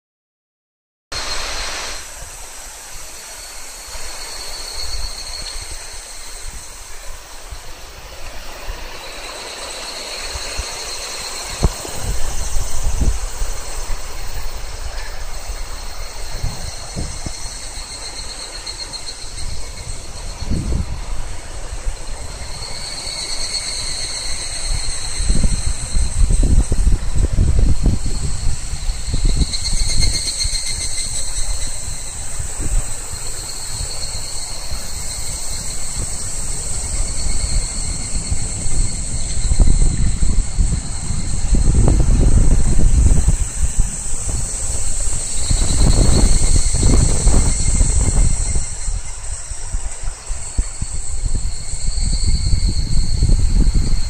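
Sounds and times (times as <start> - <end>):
cicadas calling in pulsing phrases: 1.2 - 54.0
high insect drone: 1.2 - 54.0.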